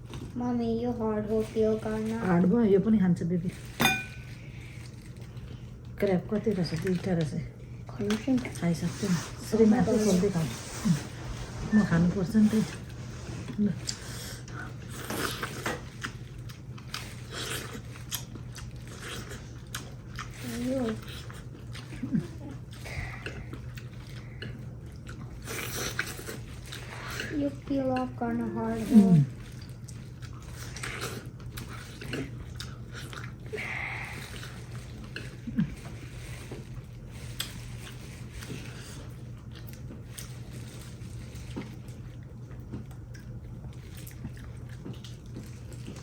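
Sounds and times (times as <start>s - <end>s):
chewing: 3.5s - 10.2s, 12.4s - 46.0s.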